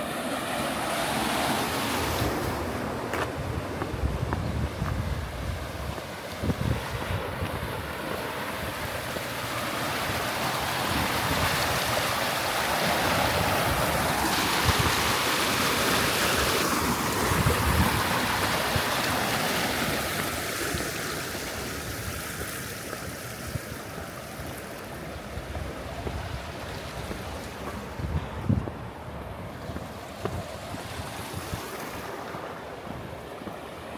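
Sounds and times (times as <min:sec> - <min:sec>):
rushing stream water: 0:00.0 - 0:33.9
wind rumble on microphone: 0:01.6 - 0:09.3, 0:09.9 - 0:33.9.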